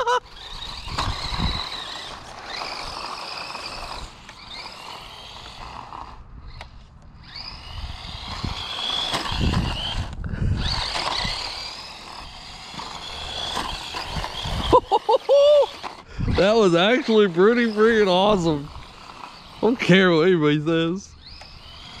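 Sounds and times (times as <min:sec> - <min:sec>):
rc truck motor whining: 0:00.0 - 0:22.0.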